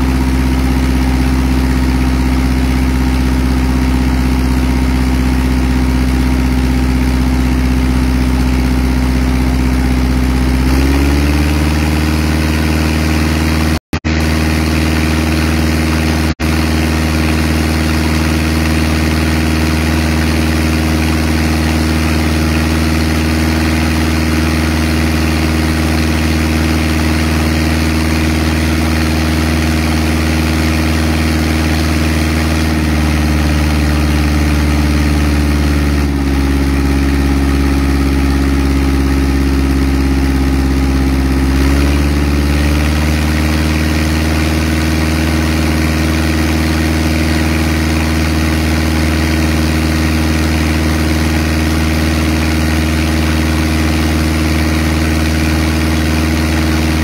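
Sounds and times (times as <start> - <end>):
engine-driven water pump running: 0.0 - 57.0.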